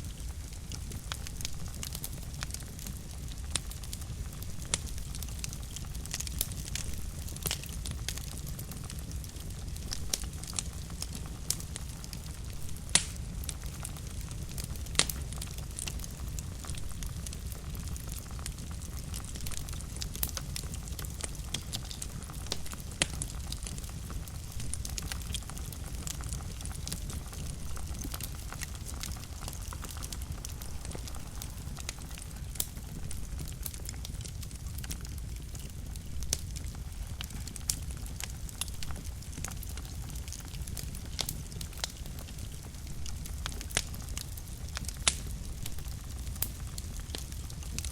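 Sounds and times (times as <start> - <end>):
fire low rumble: 0.0 - 47.9
fire popping: 0.0 - 47.9
wood fire crackling: 0.0 - 47.9.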